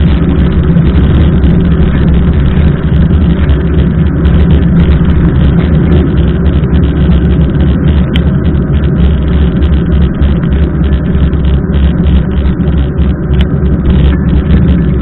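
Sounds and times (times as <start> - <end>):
road noise: 0.0 - 15.0
wind rumble: 0.0 - 15.0.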